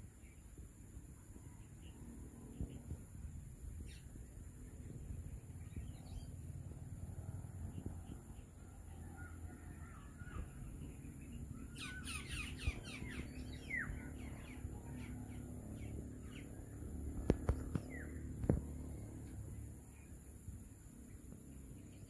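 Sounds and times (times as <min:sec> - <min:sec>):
orioles calling: 0:00.0 - 0:22.0.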